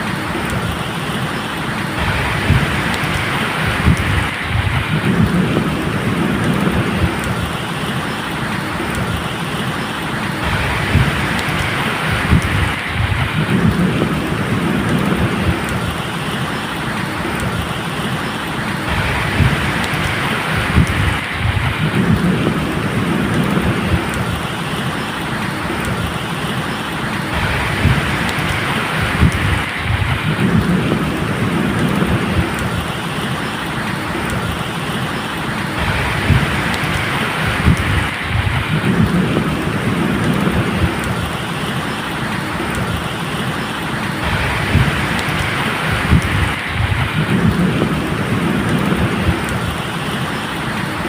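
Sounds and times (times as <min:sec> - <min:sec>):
drips ticking: 0:00.0 - 0:51.0
low thunder rumbling: 0:00.0 - 0:51.0
rain falling: 0:00.0 - 0:51.0.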